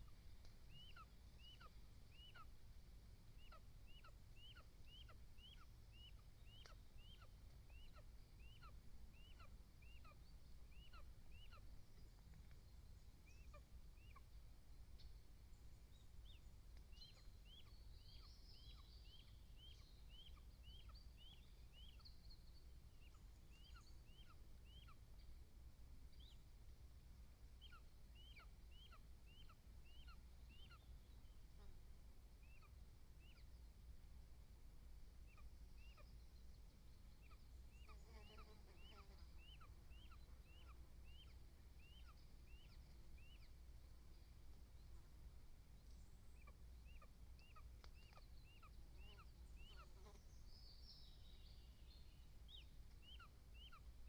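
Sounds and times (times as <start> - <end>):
faint bird calls: 0.0 - 2.6, 3.3 - 25.4, 27.5 - 31.8, 32.4 - 33.7, 35.2 - 45.1, 45.7 - 54.0.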